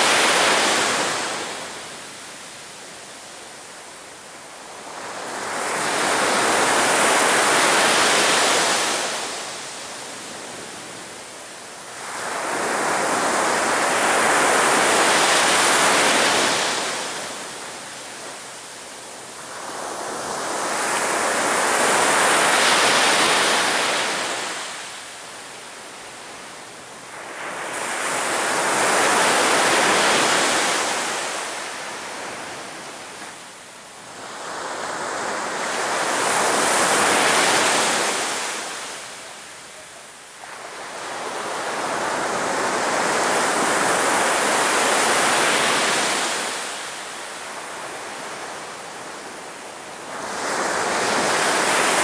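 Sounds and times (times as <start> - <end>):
sea waves breaking on beach: 4.4 - 11.1, 11.8 - 25.2, 25.9 - 33.4, 34.0 - 39.6, 40.3 - 52.0.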